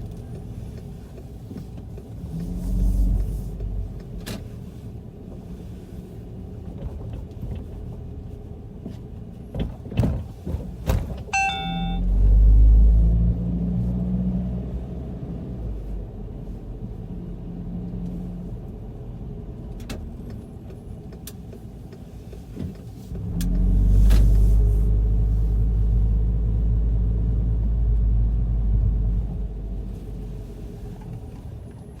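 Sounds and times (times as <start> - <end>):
car engine rumble: 0.0 - 32.0.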